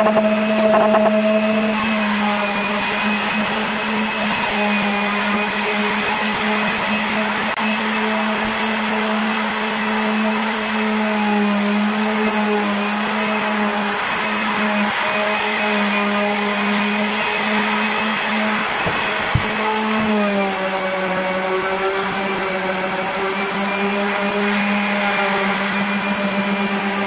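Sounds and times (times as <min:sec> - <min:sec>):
electric palm sander running: 0:00.0 - 0:27.0.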